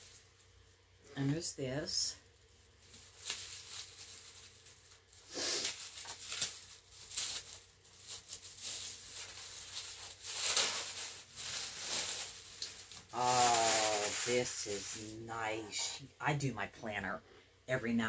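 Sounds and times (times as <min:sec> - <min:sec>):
wrapping paper rustling: 0:00.0 - 0:15.8.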